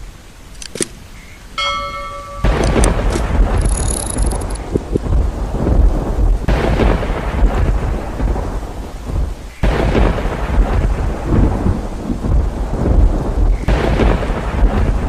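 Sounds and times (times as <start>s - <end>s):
heavy rain hiss: 0.0s - 15.0s
rolling thunder: 2.0s - 15.0s.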